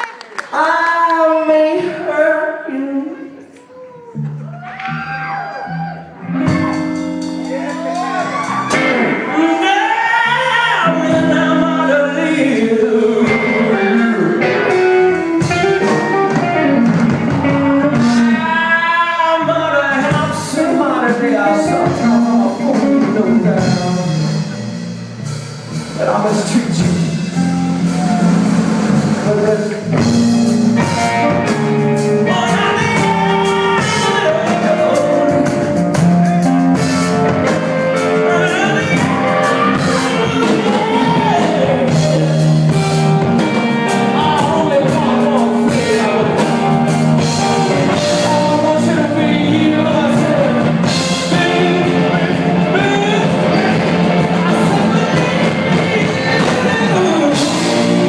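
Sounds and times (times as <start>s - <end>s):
person singing: 0.0s - 58.0s
live rock band playing: 4.0s - 58.0s.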